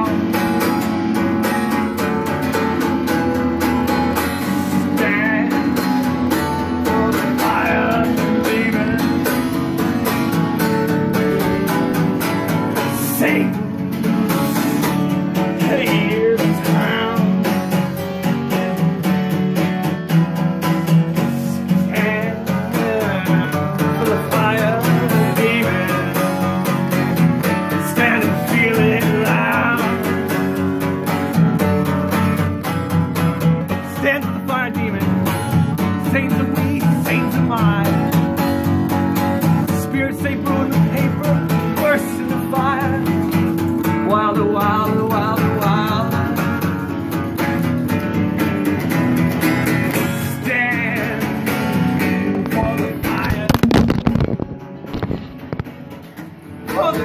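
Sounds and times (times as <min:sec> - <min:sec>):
acoustic guitar strumming: 0:00.0 - 0:57.0
electric guitar playing: 0:00.0 - 0:57.0.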